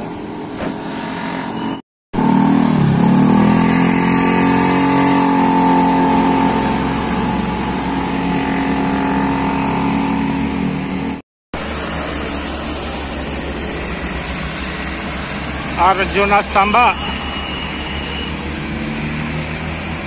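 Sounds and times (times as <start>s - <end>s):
bus diesel engine passing: 0.0s - 20.0s
road noise: 0.0s - 20.0s.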